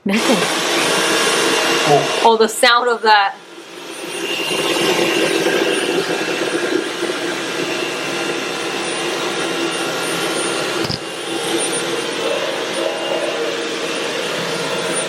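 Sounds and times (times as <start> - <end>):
vacuum cleaner whirring: 0.0 - 15.0.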